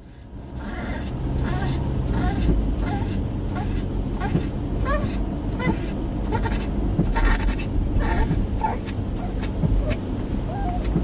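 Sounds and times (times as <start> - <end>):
road noise inside car: 0.0 - 11.0
dog whimpering: 0.6 - 11.0.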